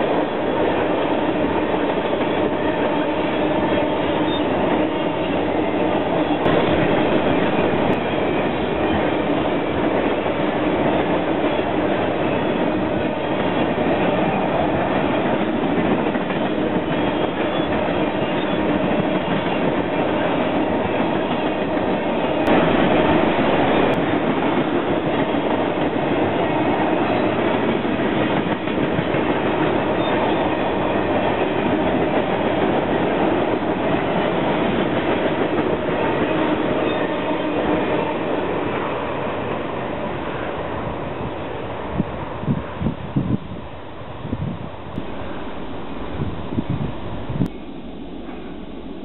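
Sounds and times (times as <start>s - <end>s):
train wheels rolling over bridge: 0.0s - 45.4s.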